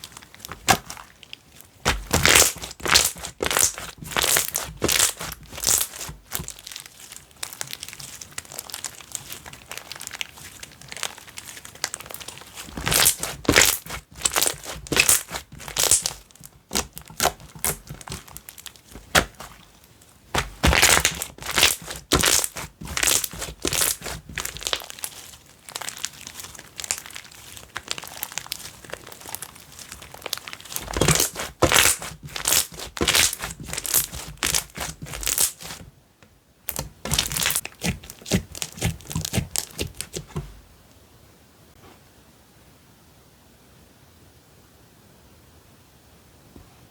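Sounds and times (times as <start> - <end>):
slime crackling and popping: 0.0 - 35.8, 36.7 - 40.5.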